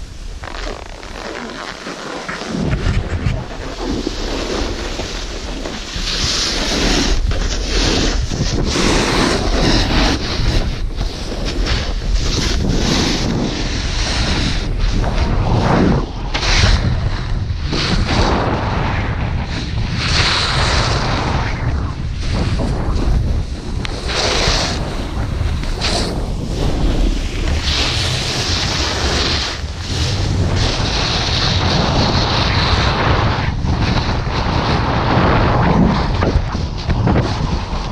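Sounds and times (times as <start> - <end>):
snowboard scraping over snow: 0.0 - 37.9
wind buffeting microphone: 2.2 - 37.9.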